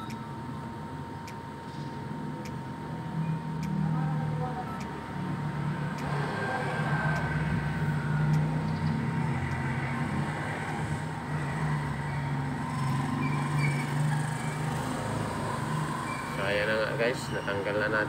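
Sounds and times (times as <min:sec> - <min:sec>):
low machine hum: 0:00.0 - 0:16.4.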